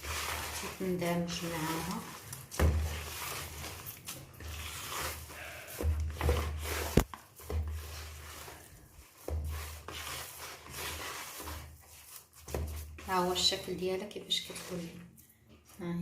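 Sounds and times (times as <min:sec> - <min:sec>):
hands squishing dough: 0:00.0 - 0:15.8.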